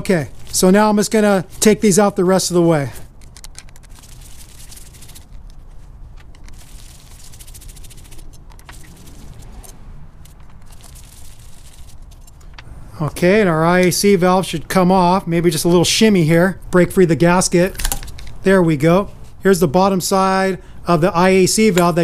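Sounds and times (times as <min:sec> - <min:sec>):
low steady hum: 0:00.0 - 0:19.5.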